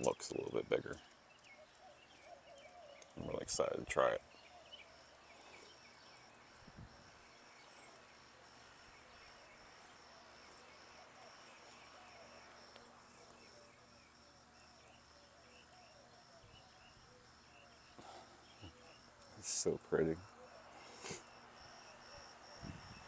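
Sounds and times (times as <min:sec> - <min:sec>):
distant bird chirps: 0:00.0 - 0:23.0
high insect drone: 0:00.0 - 0:23.0.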